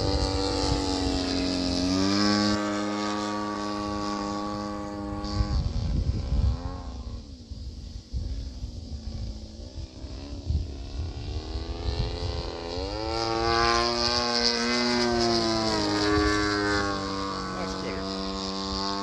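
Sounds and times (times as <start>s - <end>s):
model airplane motor drone: 0.0s - 19.0s
wind on microphone: 0.0s - 19.0s.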